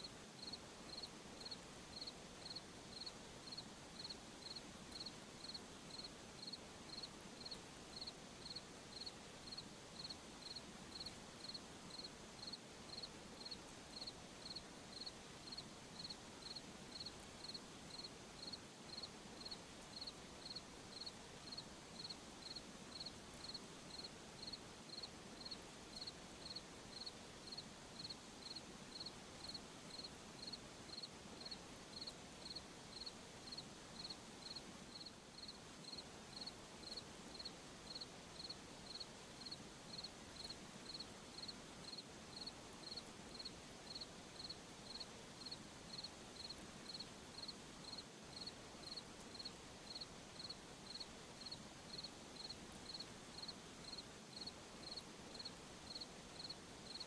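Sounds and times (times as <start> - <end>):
faint hiss: 0.0 - 57.0
cricket chirping: 0.4 - 57.0.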